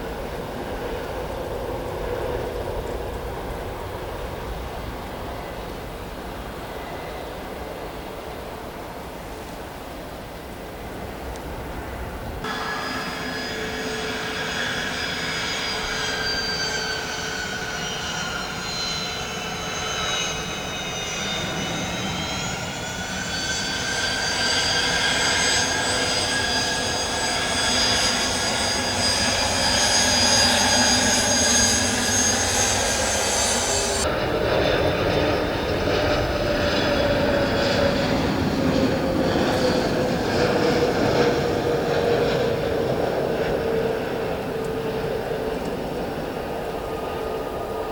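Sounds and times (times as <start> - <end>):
airliner engines whining: 0.0 - 47.9.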